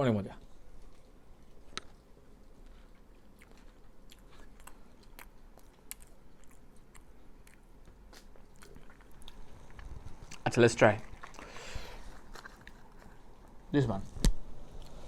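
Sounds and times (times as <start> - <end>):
person chewing food: 0.6 - 13.6.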